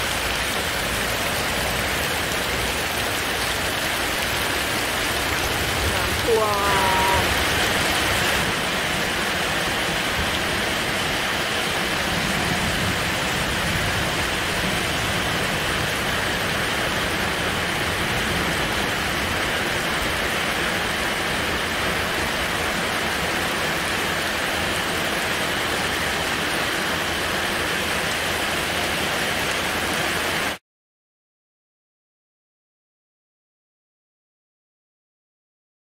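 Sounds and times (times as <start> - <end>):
heavy rain pouring: 0.0 - 30.6.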